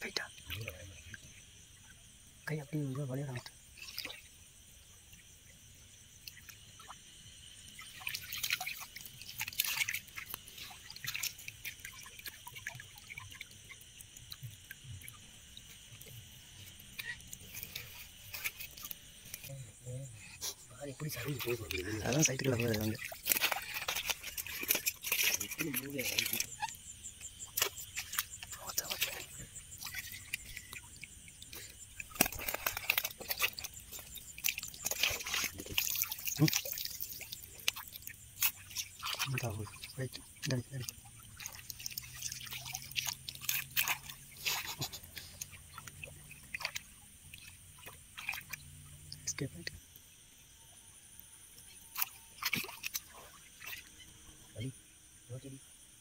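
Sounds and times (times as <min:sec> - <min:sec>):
water splashing and dripping: 0:00.0 - 0:50.1, 0:51.2 - 0:54.7
night insects chirping: 0:00.0 - 0:56.0.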